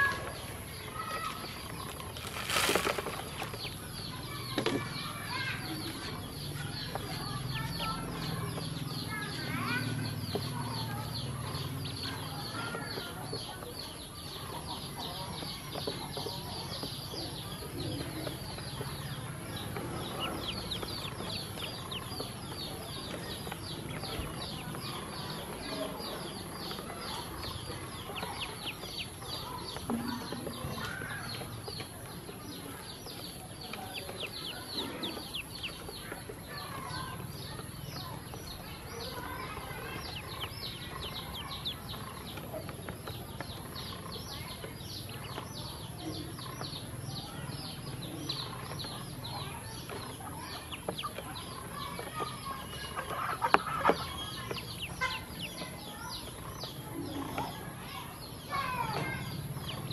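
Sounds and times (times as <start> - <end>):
ducklings peeping: 0.0 - 59.9.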